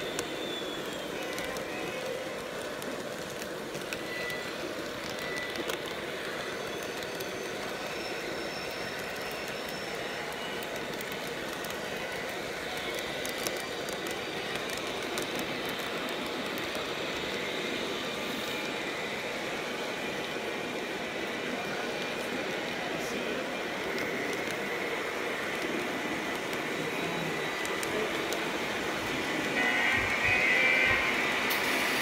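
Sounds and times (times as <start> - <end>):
model train wheels rolling on rails: 0.0 - 32.0.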